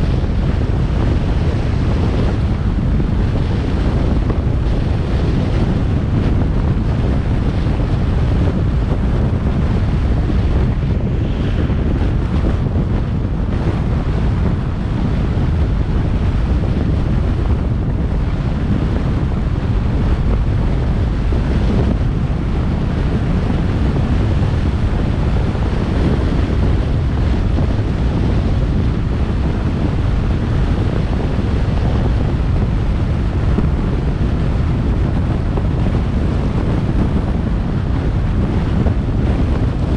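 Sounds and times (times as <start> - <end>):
car road noise: 0.0 - 39.9
wind buffeting microphone: 0.0 - 39.9.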